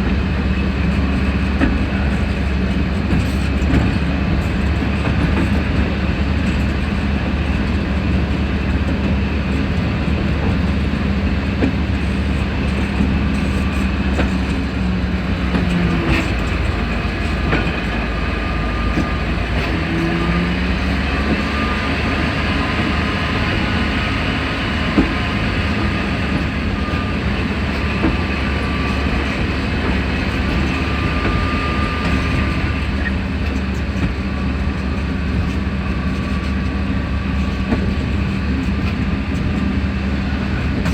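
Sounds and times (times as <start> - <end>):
diesel engine drone: 0.0 - 40.9
wheels on rail: 0.0 - 40.9.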